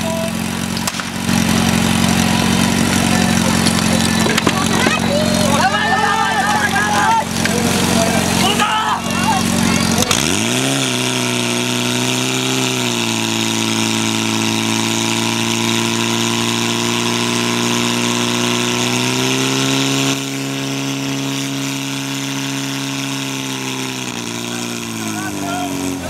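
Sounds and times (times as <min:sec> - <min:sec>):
pump engine droning: 0:00.0 - 0:26.0.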